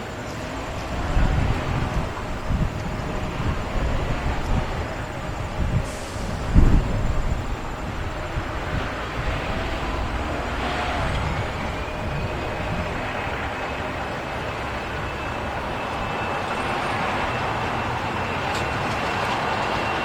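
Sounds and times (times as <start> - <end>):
jet engines roaring: 0.0 - 20.0
wind buffeting microphone: 0.1 - 20.0.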